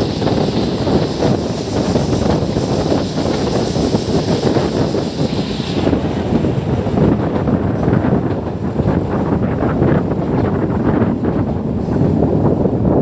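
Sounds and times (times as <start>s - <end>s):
passenger train running: 0.0s - 13.0s
wind buffeting microphone: 0.0s - 13.0s.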